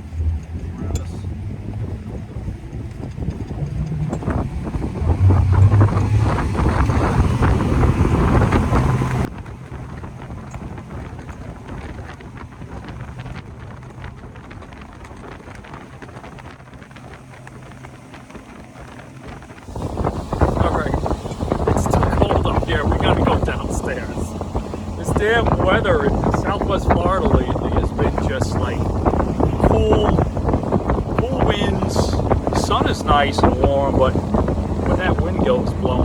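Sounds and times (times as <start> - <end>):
outboard motors revving: 0.0 - 36.0
wind buffeting microphone: 0.0 - 36.0.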